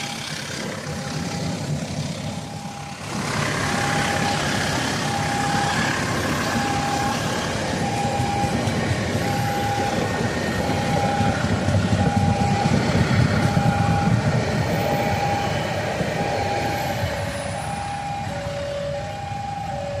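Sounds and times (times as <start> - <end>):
train rumbling on rails: 0.0 - 20.0
level crossing signal beeping: 2.4 - 11.4, 12.0 - 20.0.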